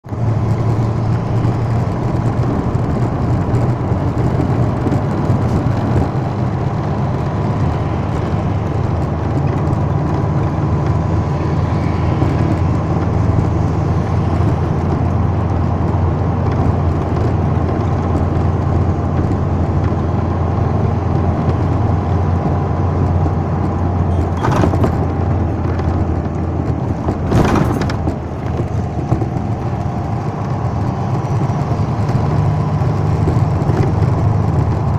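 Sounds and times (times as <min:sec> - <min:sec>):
road noise: 0:00.0 - 0:34.9
vehicle engine drone: 0:00.0 - 0:34.9.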